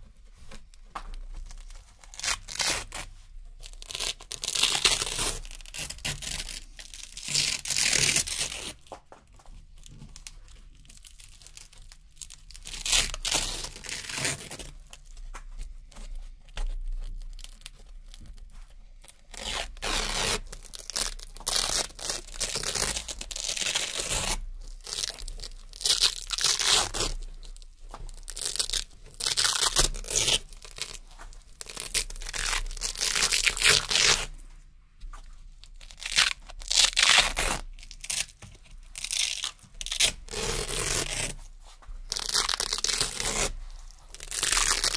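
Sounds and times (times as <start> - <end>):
velcro ripping: 1.4 - 9.0, 11.0 - 15.0, 19.0 - 34.3, 35.7 - 44.9.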